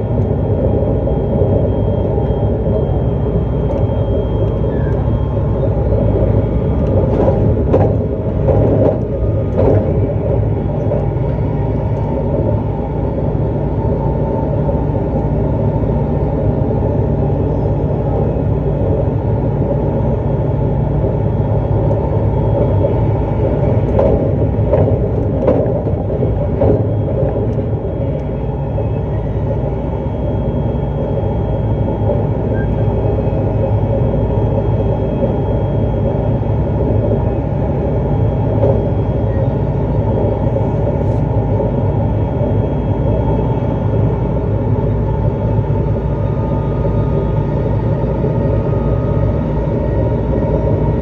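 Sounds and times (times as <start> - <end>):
train wheels rumbling on rails: 0.0 - 43.3.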